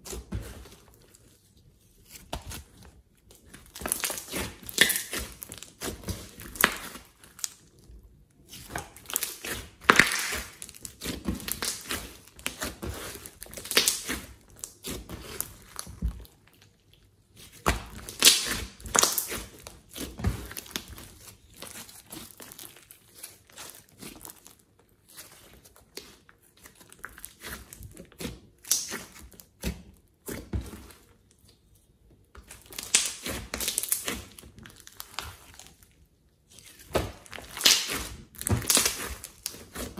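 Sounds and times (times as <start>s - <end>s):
slime squishing and crackling: 0.0s - 39.9s.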